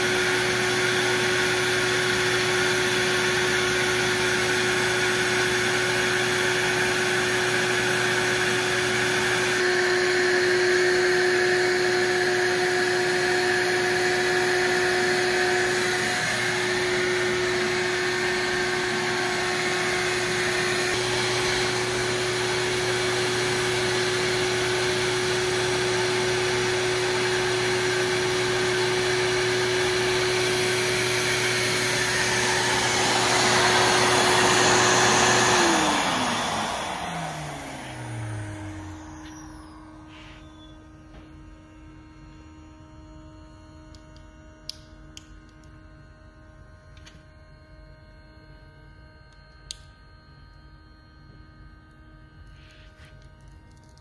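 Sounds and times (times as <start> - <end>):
shop vacuum whining: 0.0 - 54.0.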